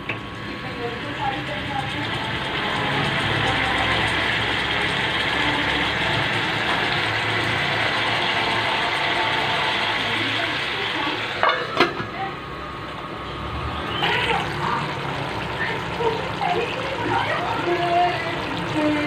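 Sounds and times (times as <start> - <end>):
curry sizzling in a pot: 0.0 - 19.0.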